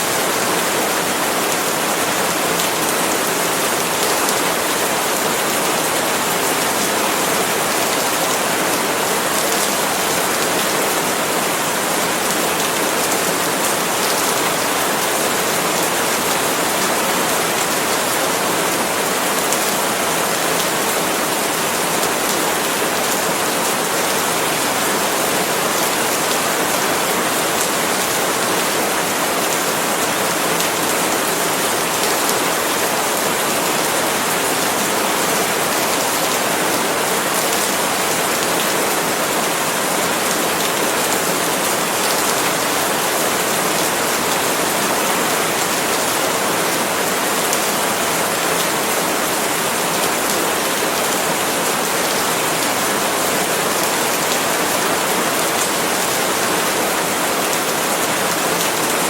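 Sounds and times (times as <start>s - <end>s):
rain falling on palm leaves: 0.0s - 59.0s.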